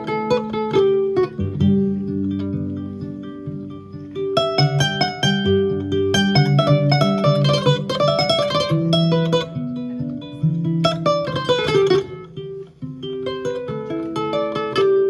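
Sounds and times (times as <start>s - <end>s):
kora plucked notes: 0.0s - 15.0s.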